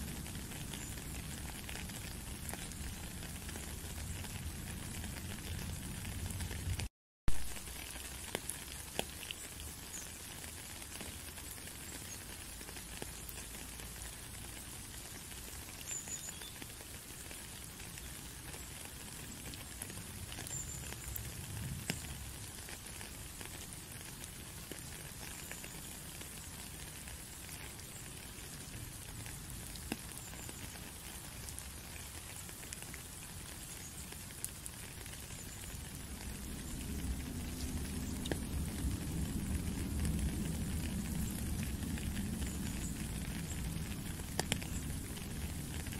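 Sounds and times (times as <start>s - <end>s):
rain pattering on puddle: 0.0s - 45.9s.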